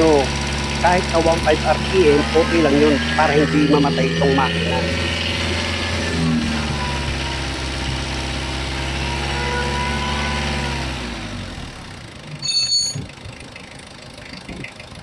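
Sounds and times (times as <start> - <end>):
diesel engine idling: 0.0 - 12.4, 13.0 - 15.0.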